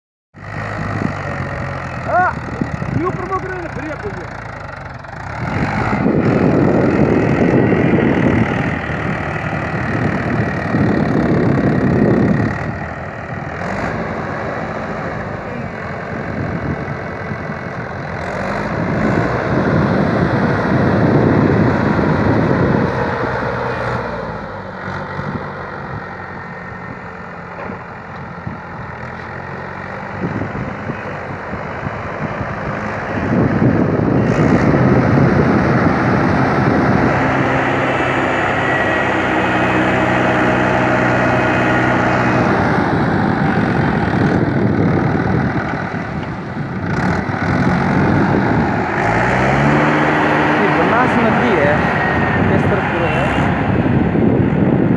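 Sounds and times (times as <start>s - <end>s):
tractor engine running: 0.4s - 54.9s.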